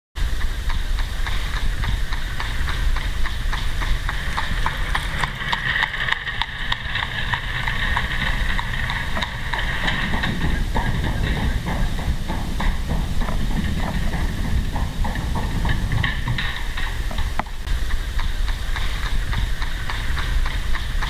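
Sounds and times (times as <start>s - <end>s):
horse hooves clip-clopping: 0.2s - 21.0s
low rumble: 0.2s - 21.0s.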